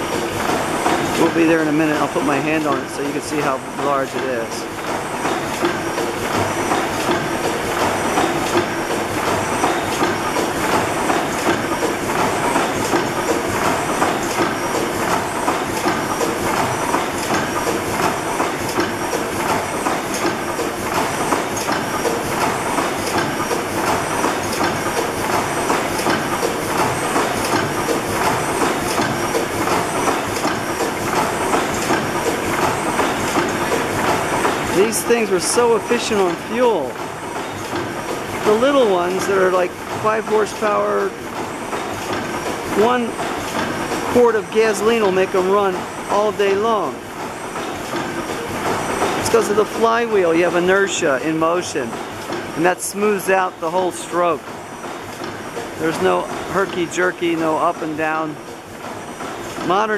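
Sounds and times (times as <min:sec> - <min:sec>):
gas engine clattering: 0:00.0 - 0:59.9.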